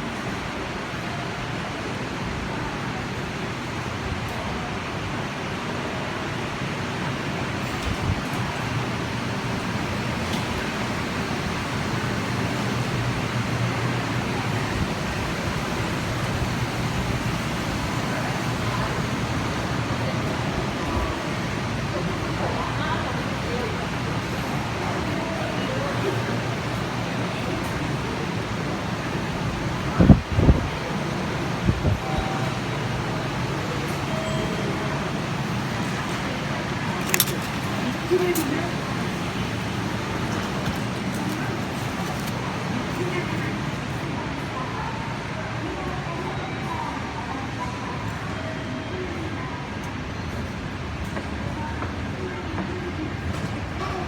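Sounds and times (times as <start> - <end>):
train running noise at speed: 0.0 - 54.0.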